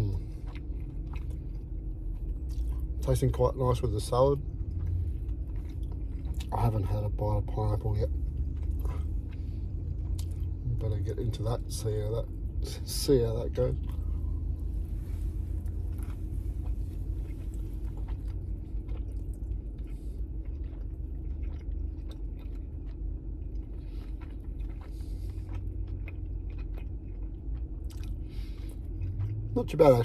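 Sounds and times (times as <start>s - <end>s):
low car hum: 0.0s - 30.0s
man chewing a burger: 0.0s - 30.0s.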